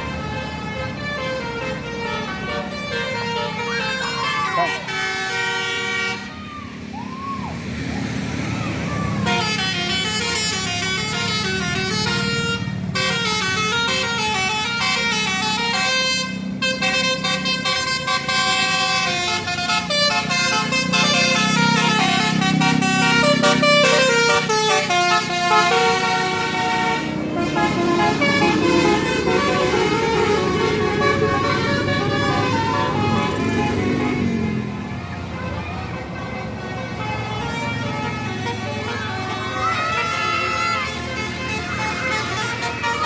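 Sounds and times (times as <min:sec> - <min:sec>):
bus horn playing a melody: 0:00.0 - 0:06.5, 0:09.2 - 0:43.0
bus engine running: 0:00.0 - 0:43.0.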